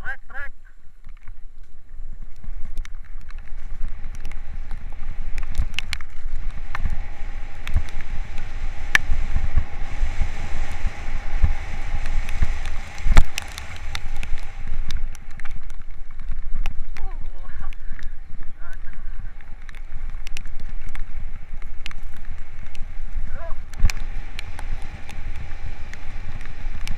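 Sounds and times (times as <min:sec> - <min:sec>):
wind buffeting microphone: 0:00.0 - 0:26.9
hiss of tyres and rain: 0:00.8 - 0:26.9.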